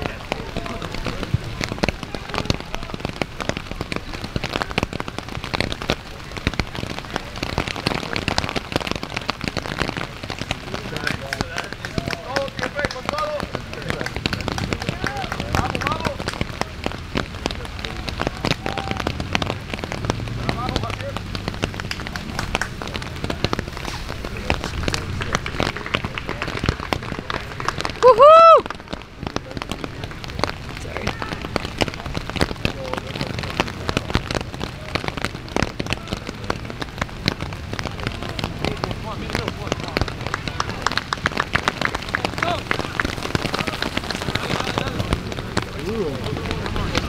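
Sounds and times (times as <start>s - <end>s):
rain drops spattering: 0.0s - 47.0s.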